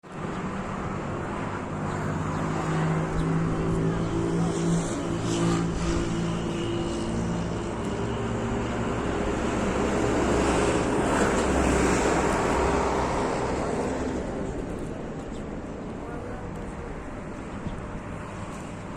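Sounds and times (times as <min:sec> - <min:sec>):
motor vehicle engine hum: 0:00.0 - 0:18.9.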